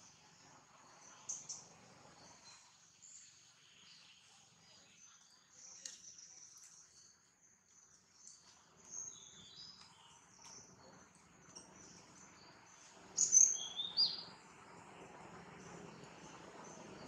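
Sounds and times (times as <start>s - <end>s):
faint insect hum: 0.0s - 17.0s
birds chirping: 0.9s - 17.0s.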